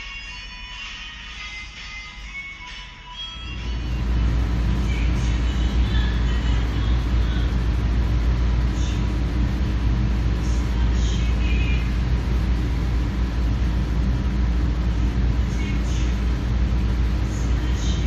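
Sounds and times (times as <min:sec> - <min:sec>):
vehicle engine and road rumble: 0:03.4 - 0:18.0.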